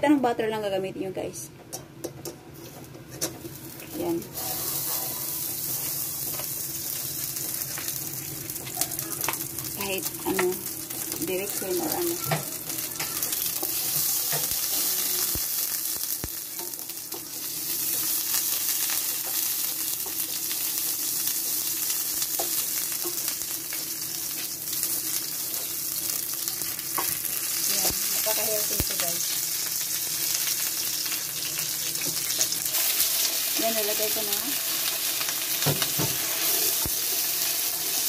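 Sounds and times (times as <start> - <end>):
butter sizzling in a pan: 3.3 - 38.0.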